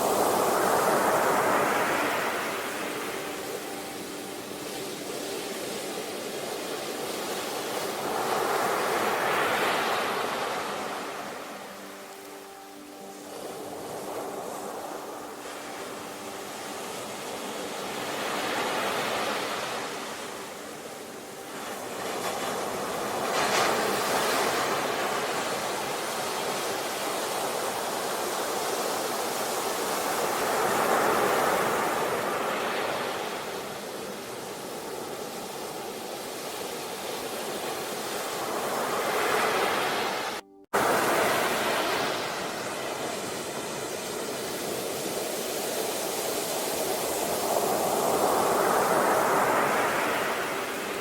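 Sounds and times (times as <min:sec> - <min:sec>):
sea waves breaking on shore: 0:00.0 - 0:51.0.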